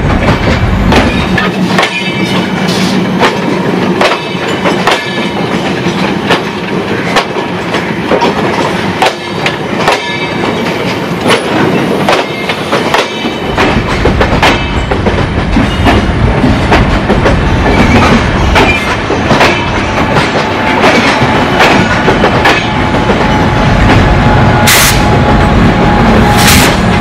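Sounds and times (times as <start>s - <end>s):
train coaches rolling past: 0.0s - 27.0s.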